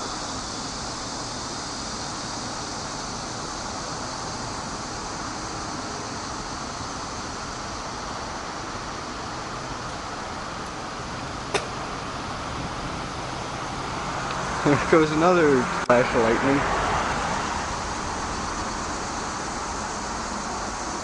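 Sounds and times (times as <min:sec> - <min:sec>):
outdoor ambient hiss: 0:00.0 - 0:21.0.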